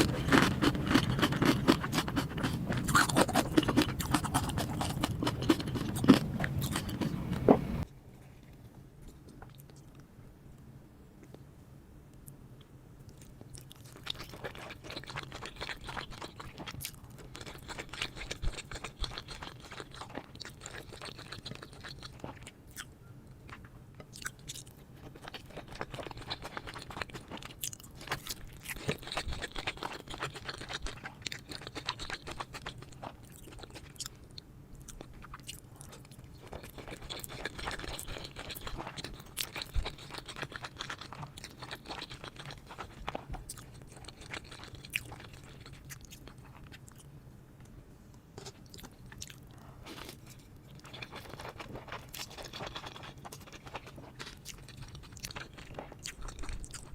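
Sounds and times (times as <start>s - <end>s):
chewing with crunching: 0.0s - 7.9s, 13.0s - 47.1s, 48.4s - 56.9s.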